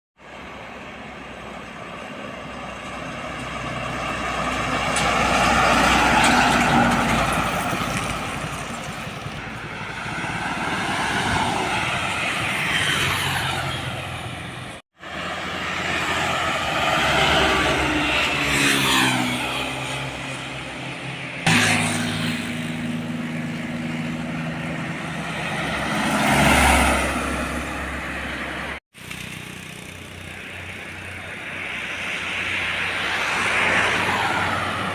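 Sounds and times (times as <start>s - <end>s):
heavy trucks driving past: 0.2s - 34.9s.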